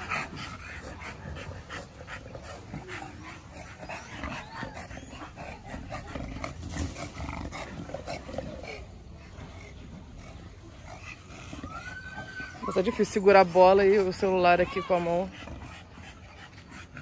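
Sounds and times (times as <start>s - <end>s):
dog panting and snuffling: 0.0s - 17.0s.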